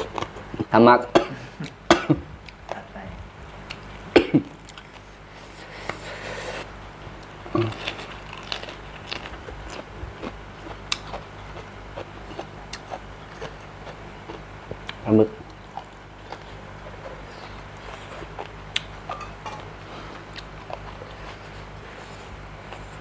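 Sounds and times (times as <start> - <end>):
person chewing crunchy food: 0.0 - 0.7, 4.6 - 23.0.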